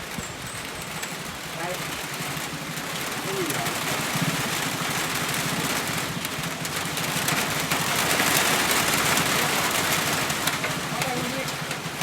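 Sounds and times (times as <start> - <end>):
engine running: 0.0 - 12.0
heavy rain pouring: 0.0 - 12.0.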